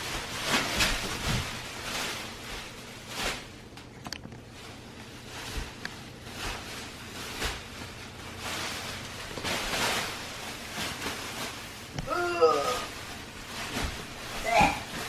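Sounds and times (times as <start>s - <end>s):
plastic bag rustling and crinkling: 0.0s - 15.0s.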